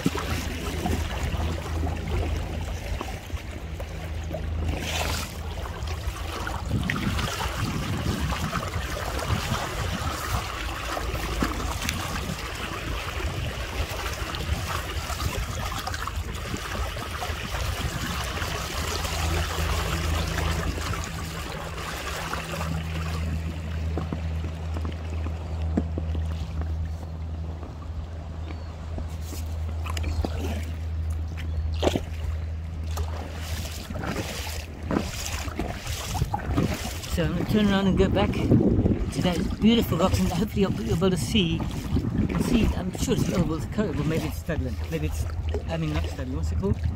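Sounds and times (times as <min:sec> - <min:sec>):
water splashing against kayak: 0:00.0 - 0:46.9.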